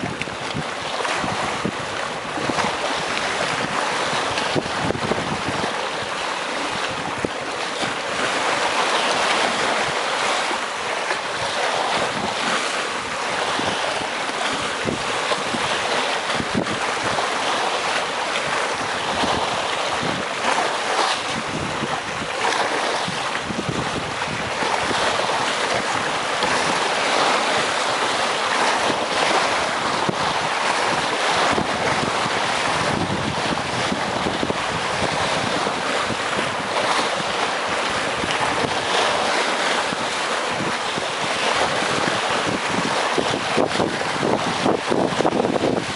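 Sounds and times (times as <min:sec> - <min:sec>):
waves breaking against rocks: 0:00.0 - 0:45.9
wind noise on microphone: 0:00.0 - 0:45.9.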